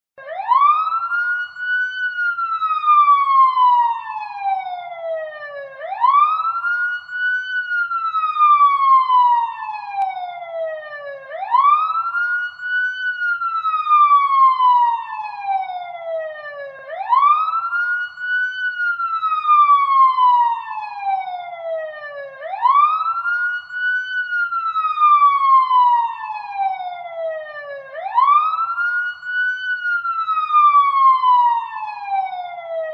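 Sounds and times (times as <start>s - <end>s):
police siren wailing: 0.2s - 32.9s.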